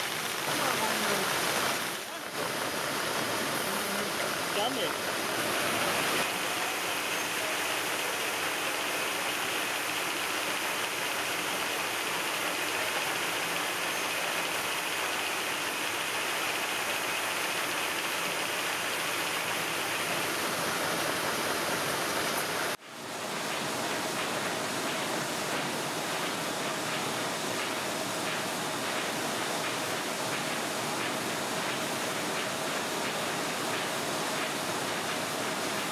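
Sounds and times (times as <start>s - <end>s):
paper-handling machinery running: 0.0s - 35.9s.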